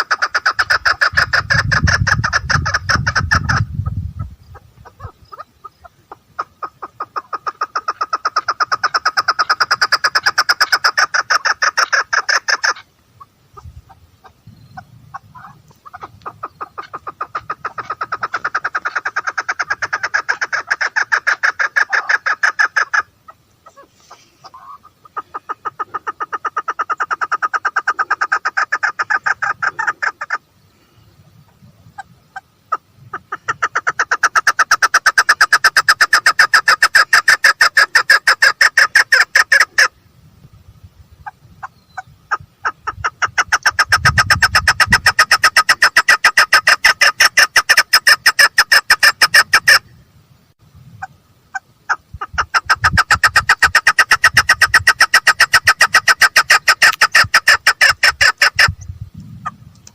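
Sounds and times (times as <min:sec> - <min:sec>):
partridge calling rapid notes: 0:00.0 - 0:30.4, 0:31.5 - 0:40.0, 0:41.2 - 0:49.9, 0:51.0 - 0:59.6.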